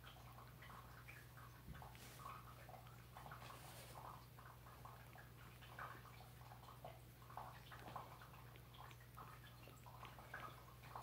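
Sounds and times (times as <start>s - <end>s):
kitten chewing clicks and rustles: 0.0s - 11.0s
low steady hum: 0.0s - 11.0s.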